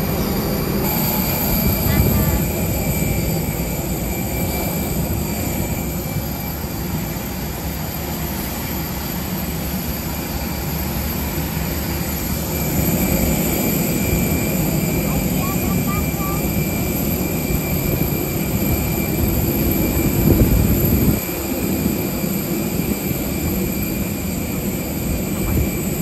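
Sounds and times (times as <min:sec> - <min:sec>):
jet aircraft noise: 0:00.0 - 0:26.0.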